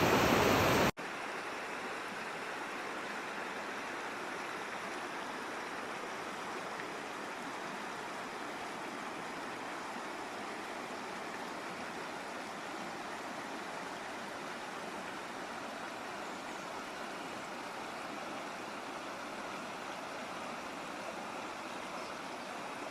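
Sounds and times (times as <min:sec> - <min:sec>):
waterfall and river rushing: 0:00.0 - 0:22.9.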